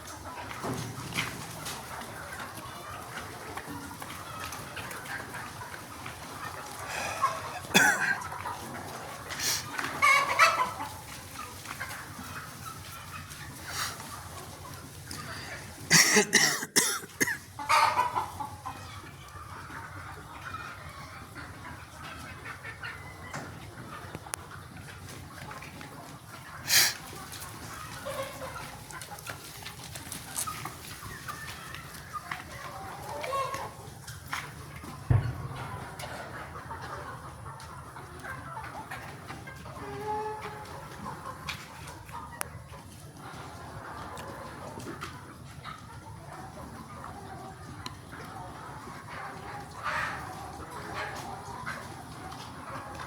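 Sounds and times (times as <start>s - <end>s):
chickens clucking and calling: 0.0s - 53.0s.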